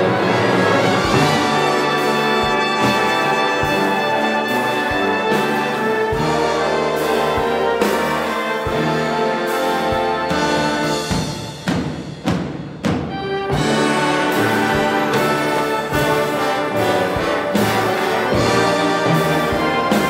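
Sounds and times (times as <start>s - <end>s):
brass and wind chords: 0.0s - 11.7s, 13.1s - 20.0s.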